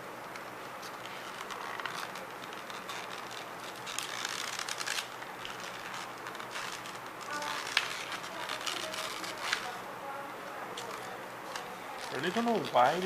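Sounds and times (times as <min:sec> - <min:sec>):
plastic packaging crackling: 0:00.2 - 0:09.9, 0:10.5 - 0:13.0.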